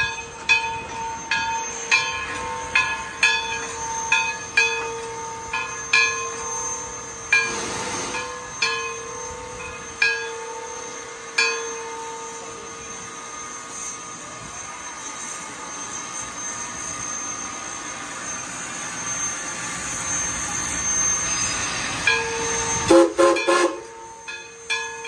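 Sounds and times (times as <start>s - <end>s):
steam hissing: 0.0s - 24.6s
locomotive bell ringing: 0.0s - 25.0s.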